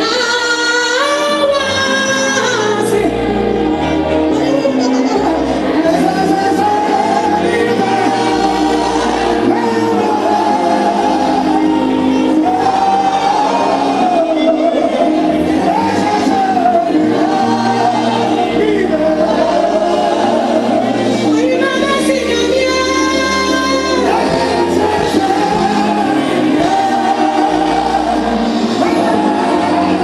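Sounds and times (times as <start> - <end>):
band playing gospel music: 0.0 - 30.0
person singing into microphone: 0.0 - 30.0.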